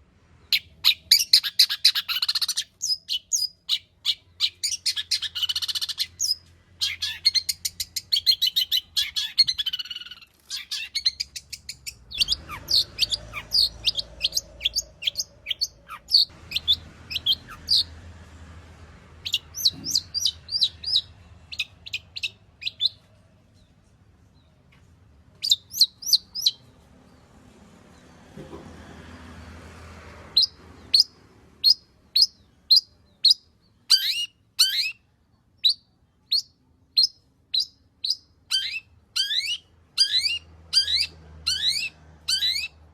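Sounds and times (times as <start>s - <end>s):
bird singing rapid varied song: 0.5s - 18.0s, 19.2s - 23.8s, 24.4s - 26.7s, 30.4s - 42.8s.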